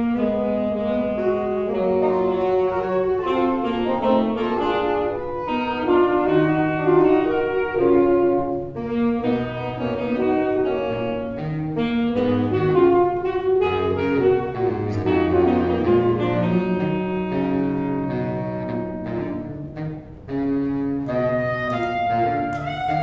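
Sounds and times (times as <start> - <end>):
saxophone quartet playing in harmony: 0.0 - 23.0.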